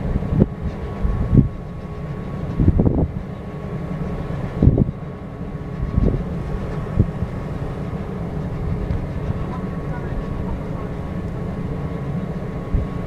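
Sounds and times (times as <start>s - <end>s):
faint steady whine: 0.0s - 13.0s
ship engine drone: 0.0s - 13.0s.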